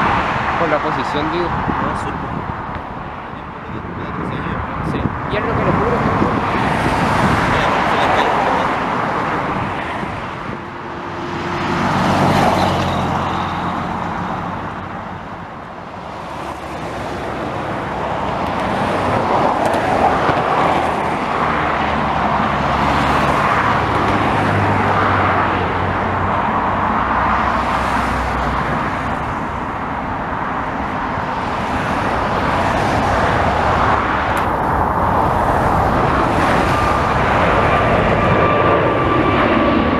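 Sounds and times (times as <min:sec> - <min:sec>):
cars and trucks passing: 0:00.0 - 0:39.9
vehicle passing by: 0:03.7 - 0:14.9, 0:16.0 - 0:39.9.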